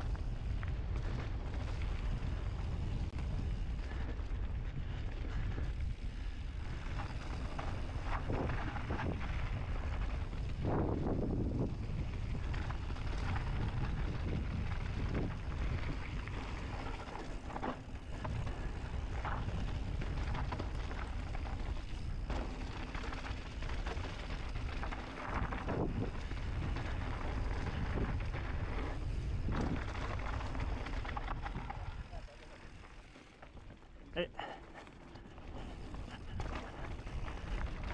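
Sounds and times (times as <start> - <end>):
wind buffeting microphone: 0.0 - 32.8
bike tyres rolling over dirt: 0.0 - 37.9.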